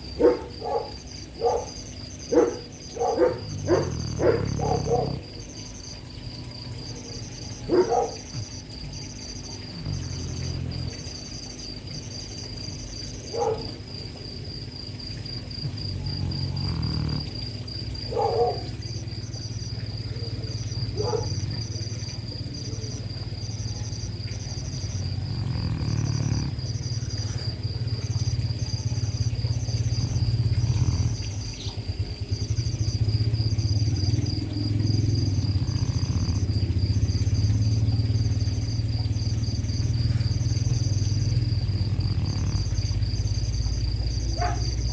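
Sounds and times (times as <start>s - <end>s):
crickets chirping: 0.0s - 44.9s
dog snoring: 0.0s - 44.9s.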